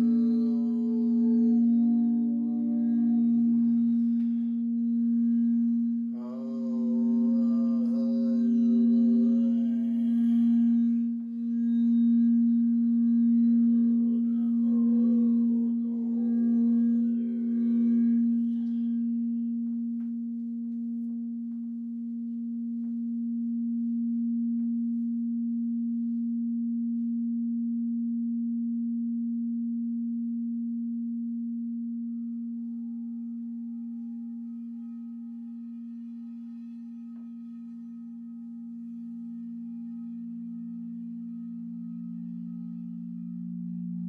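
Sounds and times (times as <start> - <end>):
lower singing bowl tone: 0.0 - 44.0
singing bowl low tone: 0.0 - 44.0.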